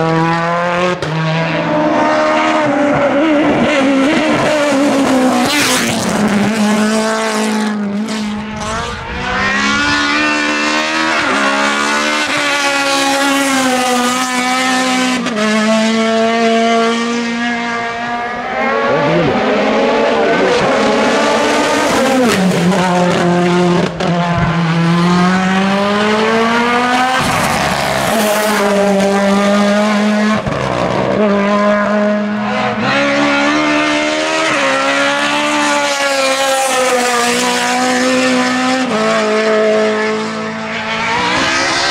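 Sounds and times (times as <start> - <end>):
race car engines at full throttle: 0.0 - 41.9.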